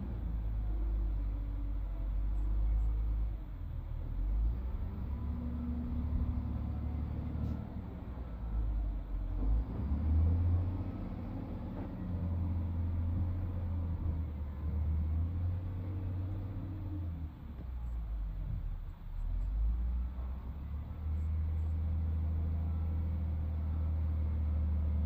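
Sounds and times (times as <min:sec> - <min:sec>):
excavator diesel engine rumbling: 0:00.0 - 0:25.0.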